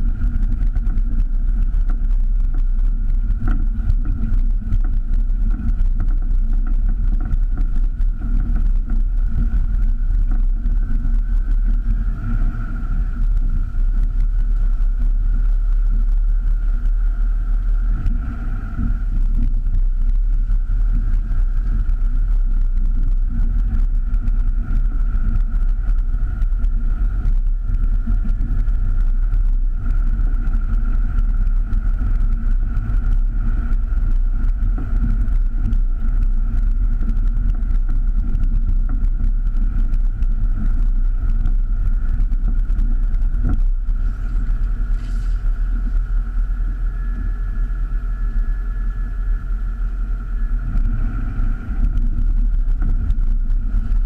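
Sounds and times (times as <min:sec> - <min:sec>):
high whine: 0:00.0 - 0:54.0
off-road vehicle engine: 0:00.0 - 0:54.0.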